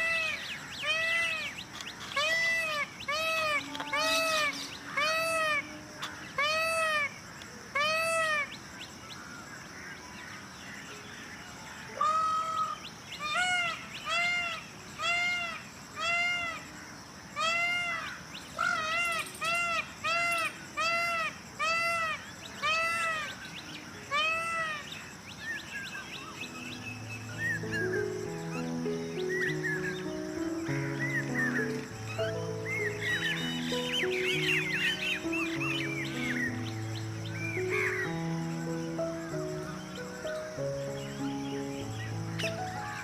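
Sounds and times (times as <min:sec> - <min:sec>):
peacock calling: 0:00.0 - 0:09.5, 0:10.9 - 0:16.8, 0:17.4 - 0:43.0.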